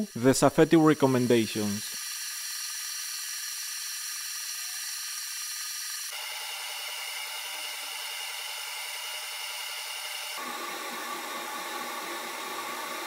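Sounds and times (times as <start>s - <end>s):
laser engraver fan and motors whirring: 0.0s - 13.0s.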